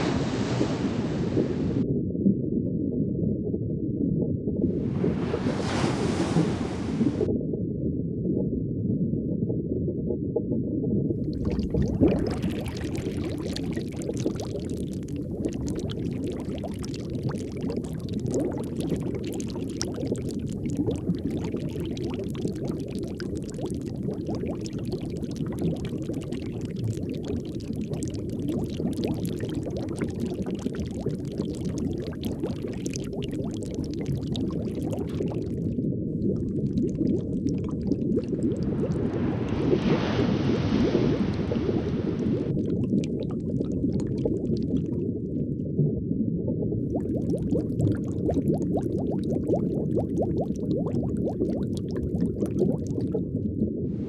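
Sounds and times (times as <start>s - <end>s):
underwater low rushing: 0.0s - 54.0s
water bubbling and gurgling: 0.0s - 54.0s.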